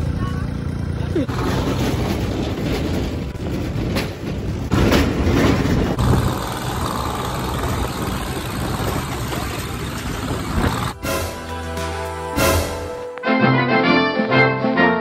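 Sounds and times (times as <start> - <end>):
motor vehicle engine rumbling: 0.0 - 13.3.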